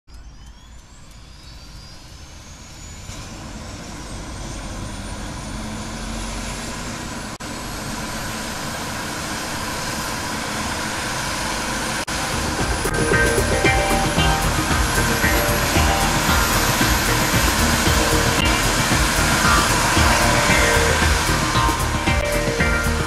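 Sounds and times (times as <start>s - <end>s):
jet engines spooling up: 0.2s - 23.0s.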